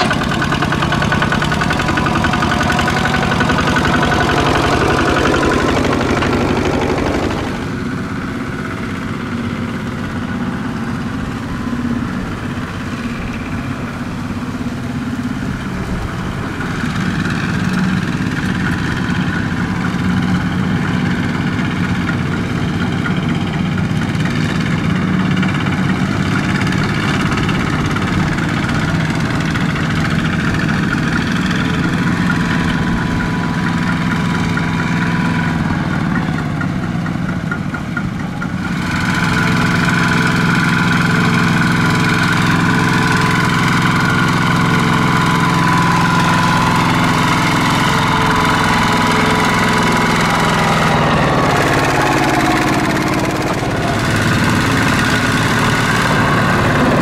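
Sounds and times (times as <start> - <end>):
closer tractor engine: 0.0 - 57.0
diesel tractor engine running: 0.0 - 57.0.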